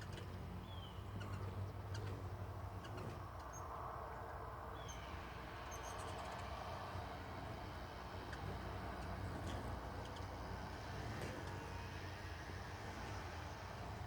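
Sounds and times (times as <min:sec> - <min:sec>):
hummingbirds chirping: 0:00.0 - 0:03.7, 0:04.6 - 0:14.0.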